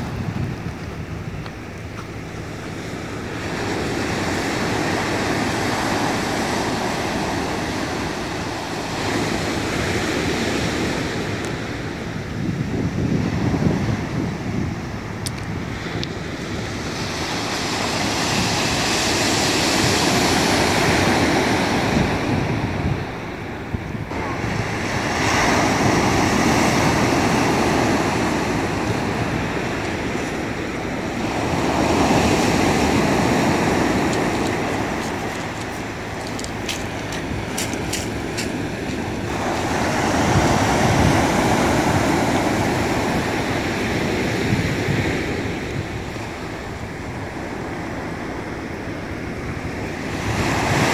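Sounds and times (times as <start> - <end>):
waves washing on pebble shore: 2.5 - 14.4, 15.5 - 23.2, 24.1 - 50.9.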